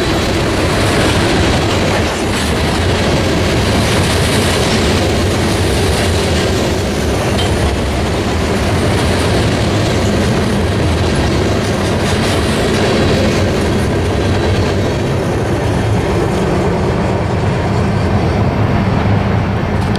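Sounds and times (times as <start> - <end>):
steel wheels rumbling on rail: 0.0 - 19.9.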